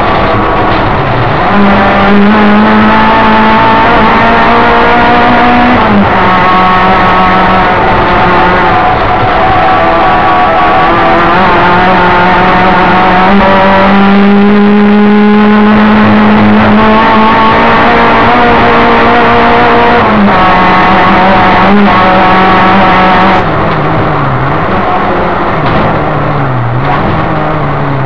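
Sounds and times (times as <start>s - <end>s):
car engine revving hard: 0.0s - 28.0s.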